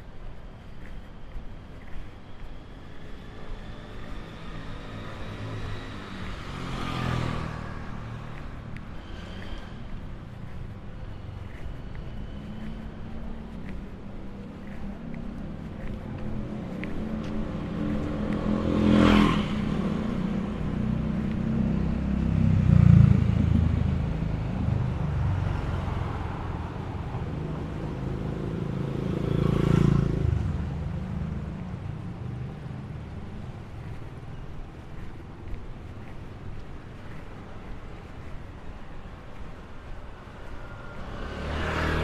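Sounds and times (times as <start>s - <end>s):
steady background traffic: 0.0s - 42.0s
vehicles passing close by: 0.0s - 42.0s.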